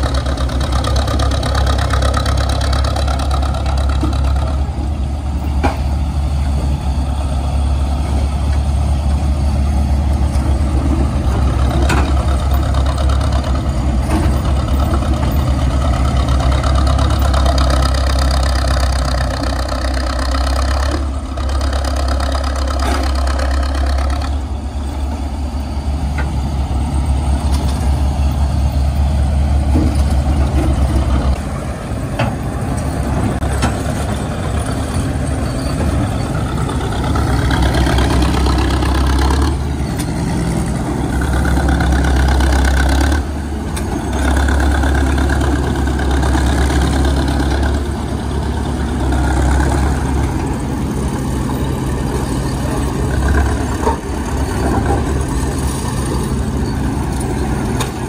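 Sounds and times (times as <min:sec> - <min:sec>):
power shovel engine running: 0:00.0 - 0:58.0.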